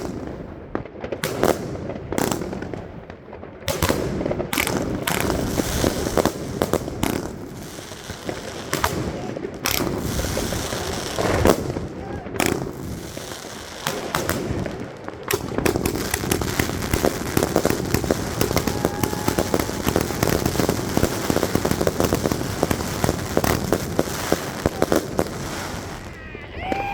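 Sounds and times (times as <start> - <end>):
firework bangs and crackling: 0.0 - 26.9.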